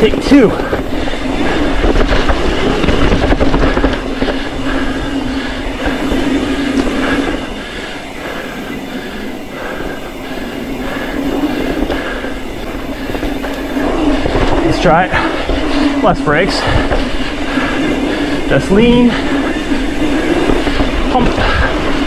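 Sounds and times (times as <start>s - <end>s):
bike rattling over bumps: 0.0s - 22.0s
bike tyres rolling over dirt: 0.0s - 22.0s
steady hum: 0.0s - 22.0s.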